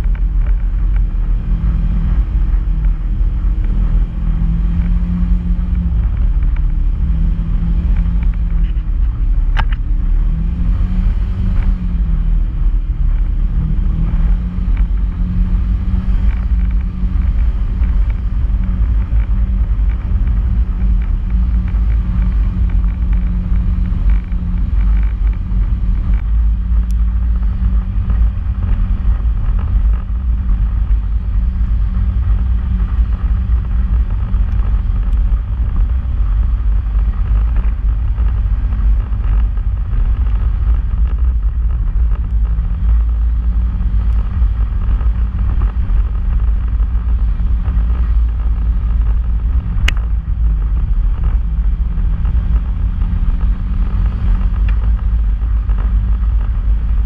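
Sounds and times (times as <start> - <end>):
heavy low rumble: 0.0 - 57.0
off-road vehicle engine drone: 0.0 - 57.0.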